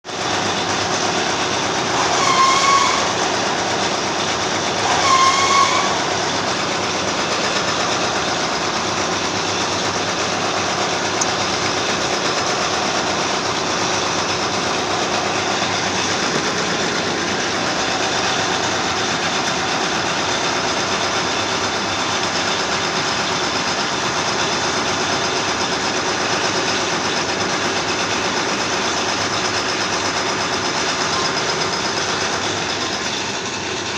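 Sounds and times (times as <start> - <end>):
lathe running: 0.1 - 33.9
lathe squeals: 0.2 - 33.9.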